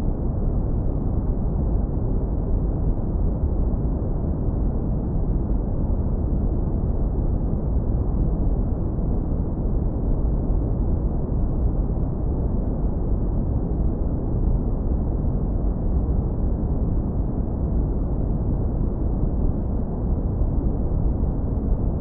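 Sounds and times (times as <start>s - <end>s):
deep brown noise rumble: 0.0s - 22.0s.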